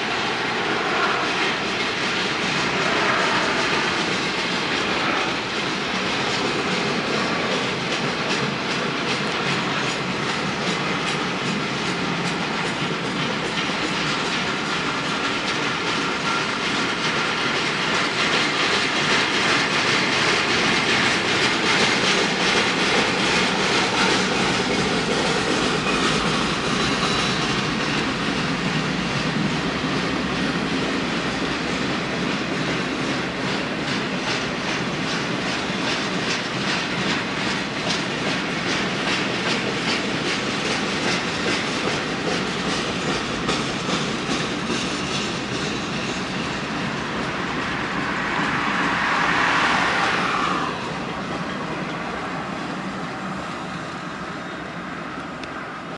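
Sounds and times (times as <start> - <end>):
train wheels clicking over rail joints: 0.0 - 55.6.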